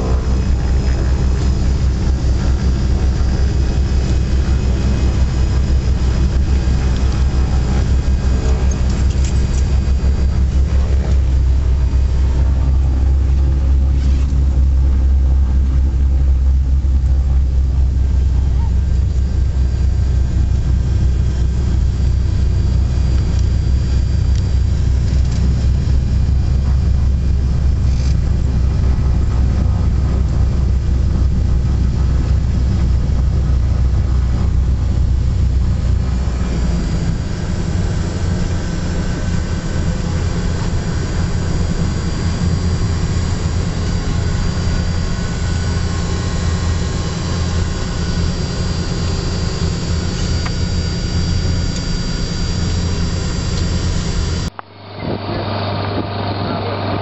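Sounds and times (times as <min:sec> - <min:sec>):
aircraft propeller engines droning: 0:00.0 - 0:57.0.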